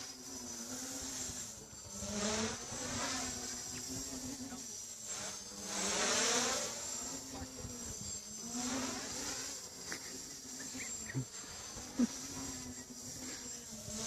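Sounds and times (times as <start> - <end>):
drone motors and propellers buzzing: 0.0 - 14.0.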